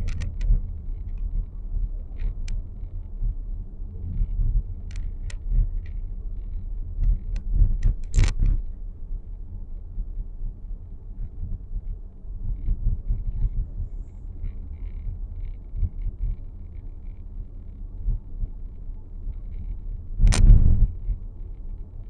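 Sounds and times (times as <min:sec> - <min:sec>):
car cabin low rumble: 0:00.0 - 0:22.0.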